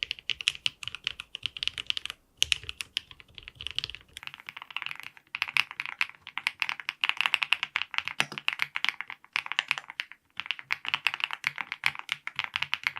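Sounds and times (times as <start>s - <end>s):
mechanical keyboard typing: 0.0s - 12.9s.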